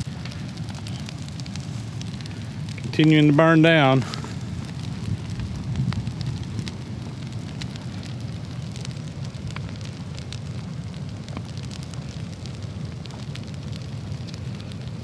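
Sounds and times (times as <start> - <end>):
crackling pops: 0.0 - 15.0
fire burning with low rush: 0.0 - 15.0.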